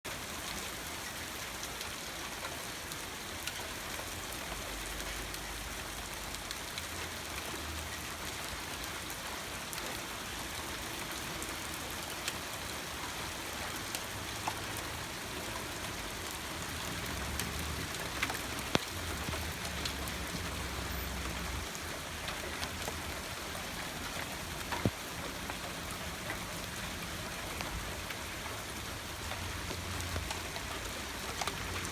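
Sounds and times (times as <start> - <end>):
rain falling: 0.1 - 31.9.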